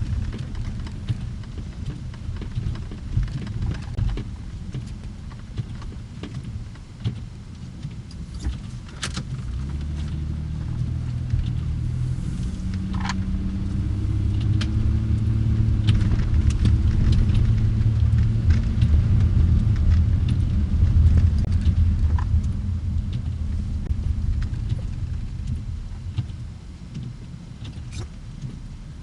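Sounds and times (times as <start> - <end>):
small clicks and rattles: 0.0 - 11.7, 12.6 - 23.5, 24.2 - 28.7
car engine and tyres rumbling: 0.0 - 29.0.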